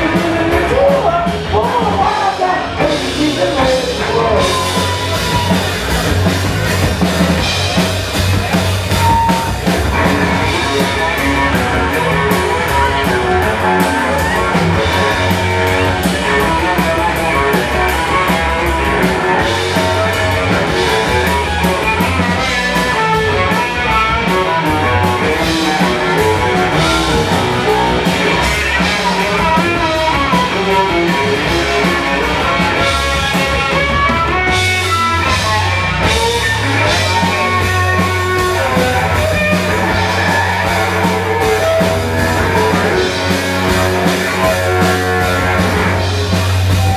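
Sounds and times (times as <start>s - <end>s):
drum kit: 0.0s - 46.9s
electric guitar: 0.0s - 46.9s.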